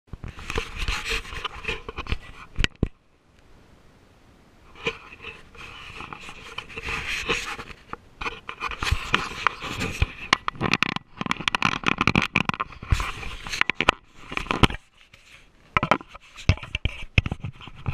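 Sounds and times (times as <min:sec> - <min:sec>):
camera handling scraping and clicks: 0:00.2 - 0:03.0, 0:04.8 - 0:17.9.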